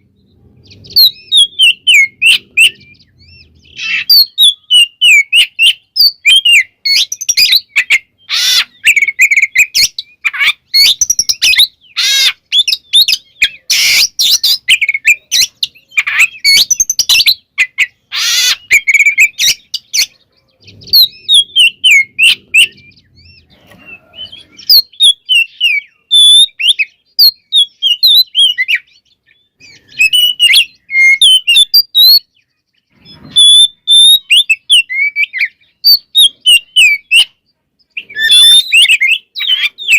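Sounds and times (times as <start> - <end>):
bird singing whistled phrases: 0.7 - 32.4, 33.1 - 39.9.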